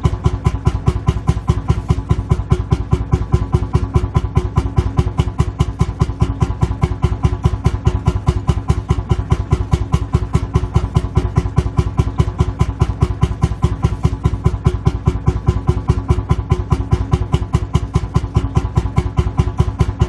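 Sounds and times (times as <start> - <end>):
tractor engine idling: 0.0 - 20.0.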